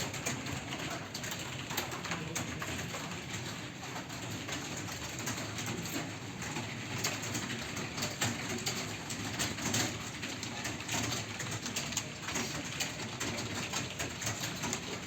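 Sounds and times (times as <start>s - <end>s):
computer keyboards clattering: 0.0s - 15.0s.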